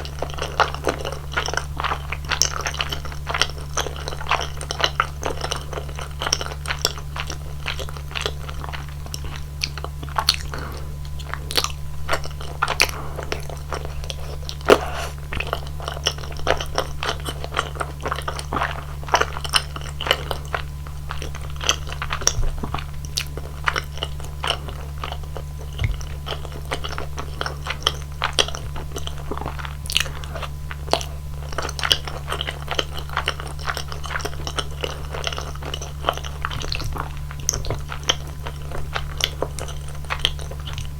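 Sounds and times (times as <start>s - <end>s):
close chewing mouth sounds: 0.0s - 40.9s
steady low hum: 0.0s - 40.9s.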